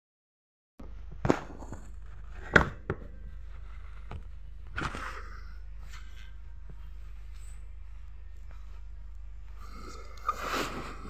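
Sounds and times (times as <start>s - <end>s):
low steady hum: 0.8s - 11.0s.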